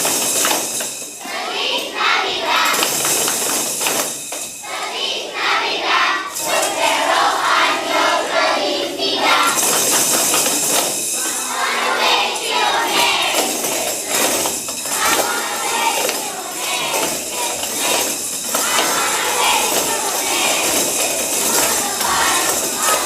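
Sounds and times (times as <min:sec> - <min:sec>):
children singing: 0:00.0 - 0:23.0
music: 0:00.0 - 0:23.0
tambourines jingling: 0:00.0 - 0:23.0.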